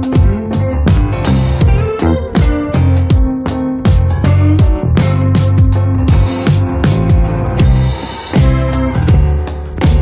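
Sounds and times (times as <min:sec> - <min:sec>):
funk instrumental music: 0:00.0 - 0:10.0.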